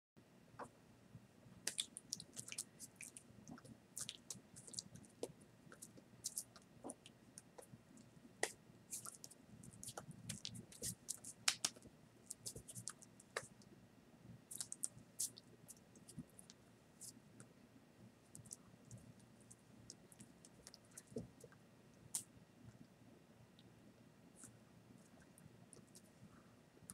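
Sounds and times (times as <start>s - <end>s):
low room hum: 0.2s - 26.9s.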